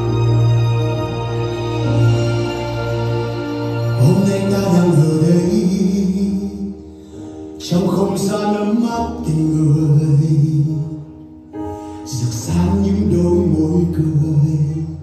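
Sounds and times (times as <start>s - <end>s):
pop song: 1.8s - 11.1s, 12.0s - 15.0s.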